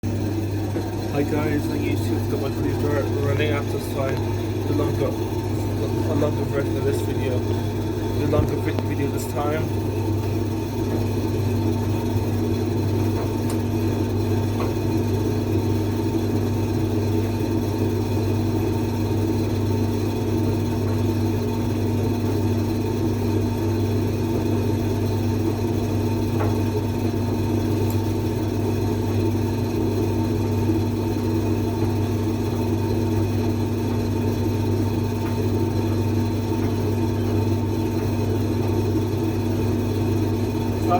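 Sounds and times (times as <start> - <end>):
appliance humming and whirring: 0.0 - 40.9.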